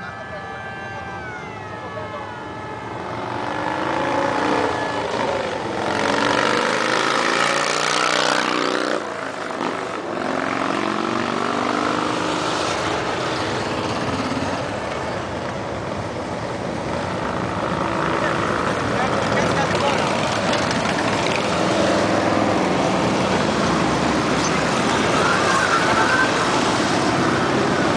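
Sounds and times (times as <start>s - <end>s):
motorcycles riding past: 0.7s - 27.9s.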